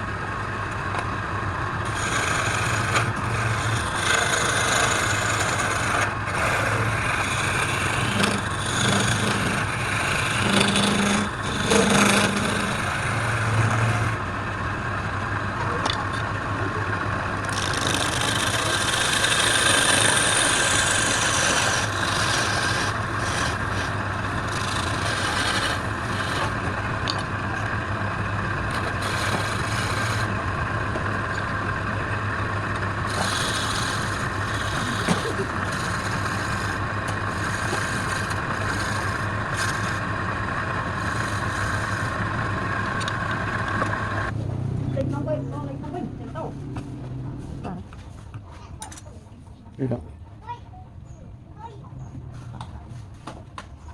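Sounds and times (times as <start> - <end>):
lathe motor hum: 0.0 - 44.4
tool scraping spinning wood: 0.8 - 44.4.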